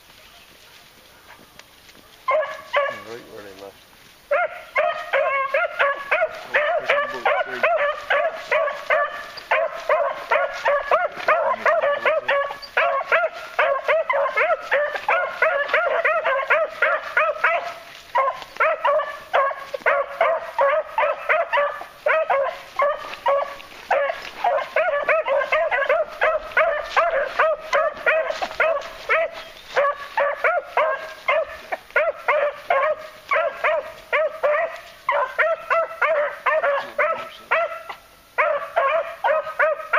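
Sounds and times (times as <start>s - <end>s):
beagles baying: 2.1s - 3.4s, 4.3s - 39.9s.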